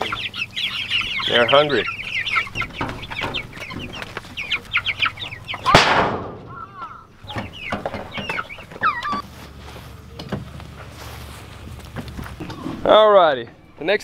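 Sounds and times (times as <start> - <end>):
chickens chirping and clucking: 0.0 - 14.0.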